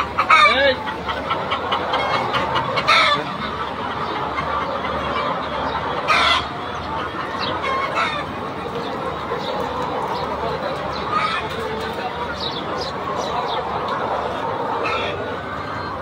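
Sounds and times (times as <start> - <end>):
hens clucking: 0.0 - 16.0
loud hen call: 0.0 - 16.0.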